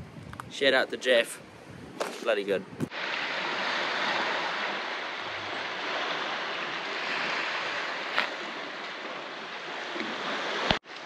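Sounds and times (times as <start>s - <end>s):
small waves on stony beach: 2.0s - 11.0s.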